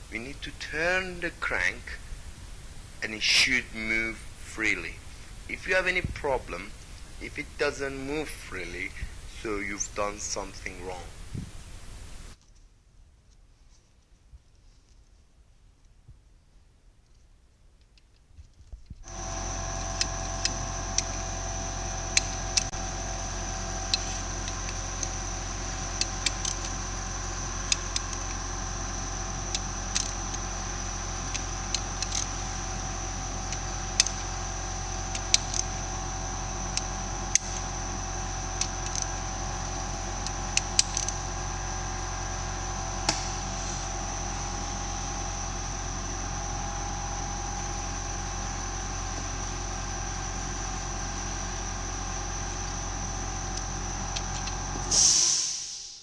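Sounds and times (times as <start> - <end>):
steady mechanical hum: 0.0 - 12.7, 17.0 - 56.0.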